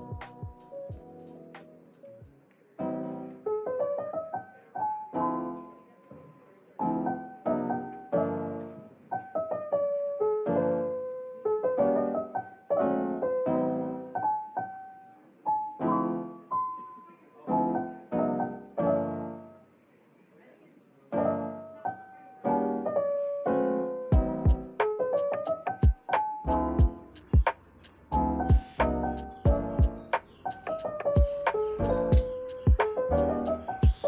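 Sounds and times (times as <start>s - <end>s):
gentle piano melody: 0.0s - 19.7s, 21.1s - 34.0s.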